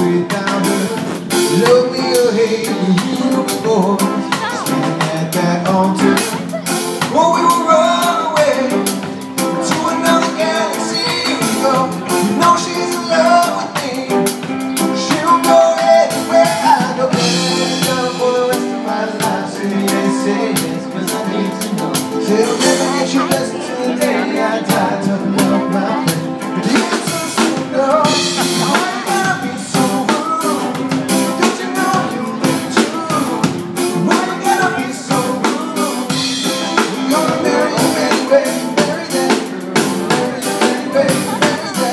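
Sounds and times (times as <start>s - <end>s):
electric guitars: 0.0s - 41.9s
person singing: 0.0s - 41.9s.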